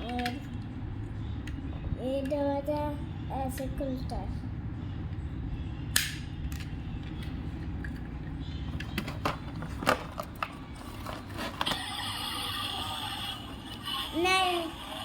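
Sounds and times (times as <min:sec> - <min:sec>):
faint high hum: 0:00.0 - 0:09.7, 0:10.5 - 0:15.0.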